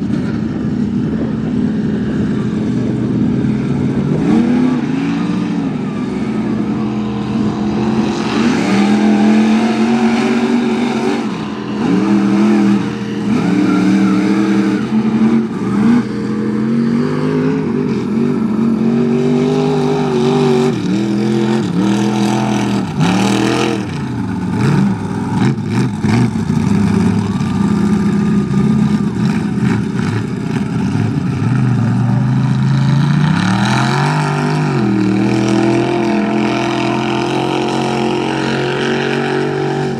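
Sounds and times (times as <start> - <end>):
truck engine revving hard: 0.0 - 39.9.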